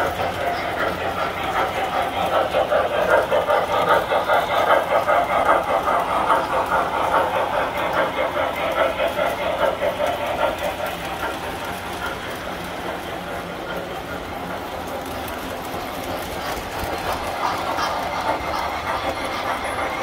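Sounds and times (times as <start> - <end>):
model train clattering on track: 0.0 - 20.0.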